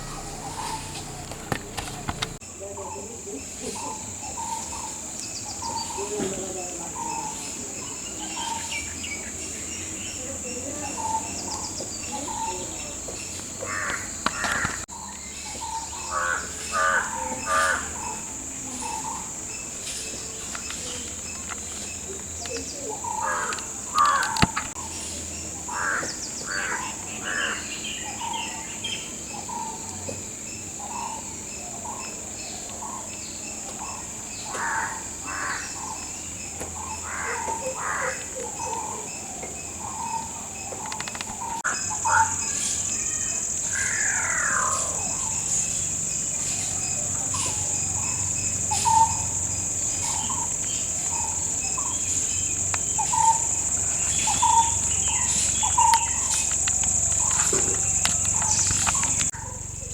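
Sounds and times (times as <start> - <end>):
birds calling: 0.0 - 59.9.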